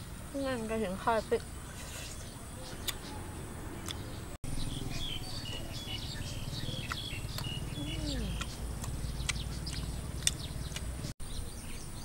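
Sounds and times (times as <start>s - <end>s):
small birds chirping: 0.4s - 12.0s.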